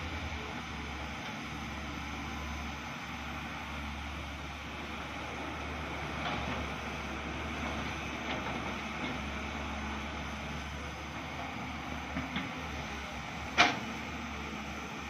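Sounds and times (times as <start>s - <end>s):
distant excavator diesel engines: 0.0s - 15.0s.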